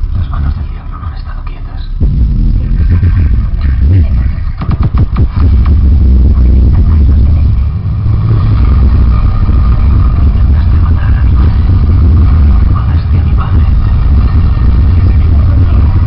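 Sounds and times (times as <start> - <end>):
loud music with heavy bass: 0.0 - 1.2, 2.0 - 16.0.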